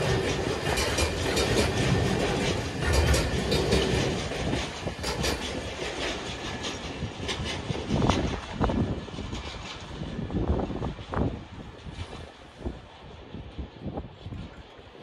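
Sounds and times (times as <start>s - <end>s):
train wheels clicking over rail joints: 0.0s - 14.5s.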